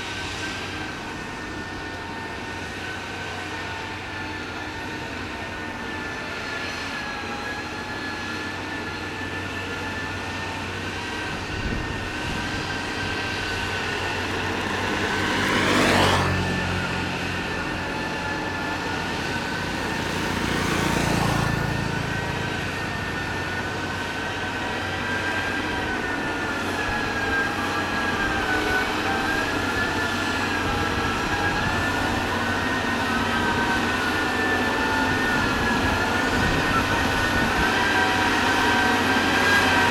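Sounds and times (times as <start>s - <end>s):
diesel engine with wavering whine: 0.0s - 39.9s.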